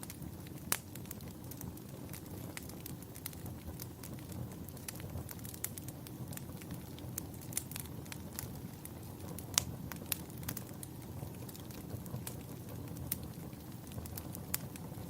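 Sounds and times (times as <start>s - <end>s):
burning wood crackling and popping: 0.0s - 15.0s
flames rushing: 0.0s - 15.0s.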